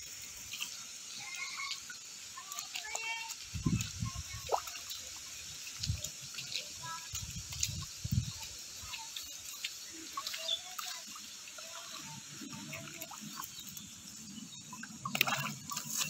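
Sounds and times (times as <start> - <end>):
steady high hiss: 0.0 - 14.8
fish flapping and splashing: 0.1 - 16.0.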